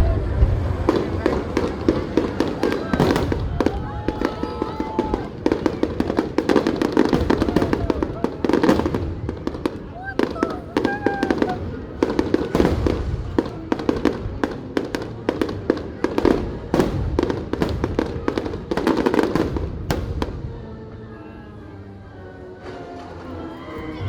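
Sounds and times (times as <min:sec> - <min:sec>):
fireworks bangs and crackling: 0:00.0 - 0:20.8
music playing: 0:00.0 - 0:24.0.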